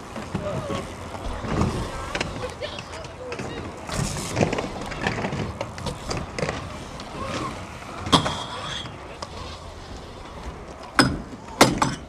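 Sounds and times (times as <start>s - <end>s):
bike tyres rolling on plywood: 0.0s - 11.7s.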